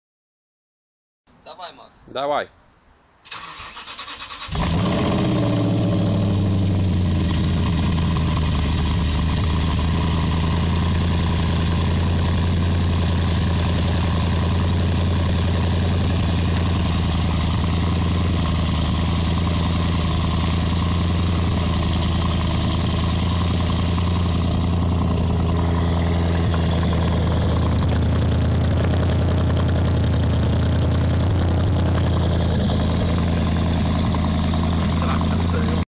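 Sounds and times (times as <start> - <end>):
car engine idling: 4.5 - 35.8.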